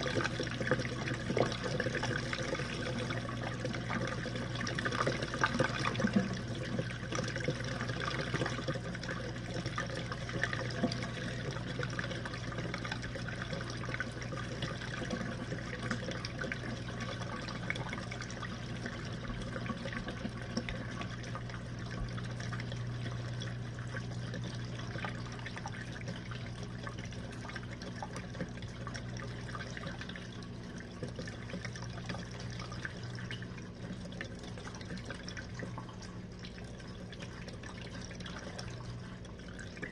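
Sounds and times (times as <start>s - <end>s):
dishwasher pump motor humming: 0.0s - 39.9s.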